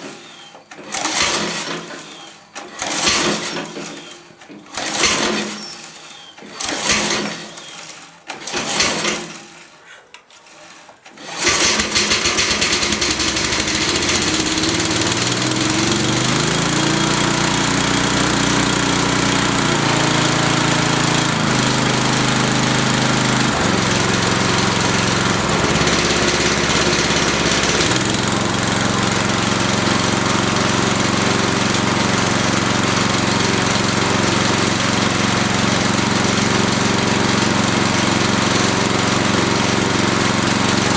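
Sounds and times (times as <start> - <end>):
mower engine starting and running: 0.0 - 40.9.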